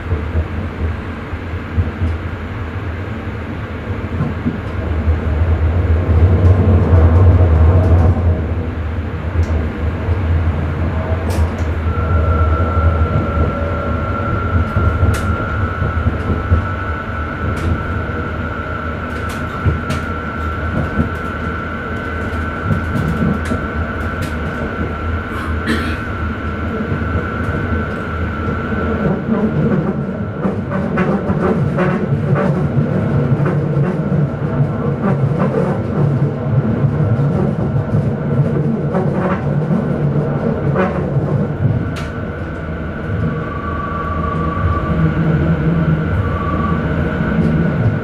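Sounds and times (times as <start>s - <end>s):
high steady whine: 0.0s - 48.0s
train rumble: 0.0s - 48.0s.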